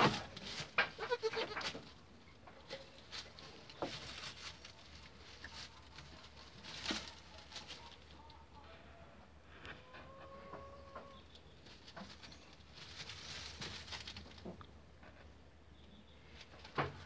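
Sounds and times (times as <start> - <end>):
goat kids moving on straw: 0.0 - 15.3, 16.1 - 17.0.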